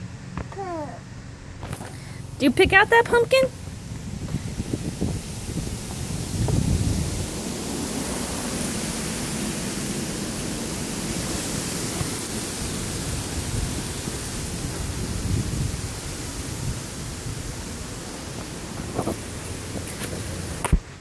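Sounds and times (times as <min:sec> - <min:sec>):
wind on microphone: 0:02.6 - 0:21.0.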